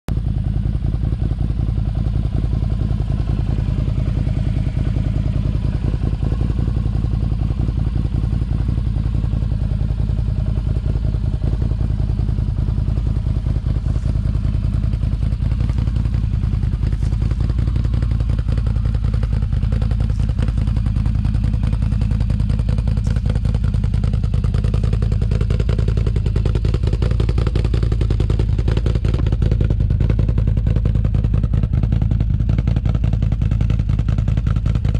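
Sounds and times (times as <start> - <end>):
atv engine running: 0.1 - 34.9.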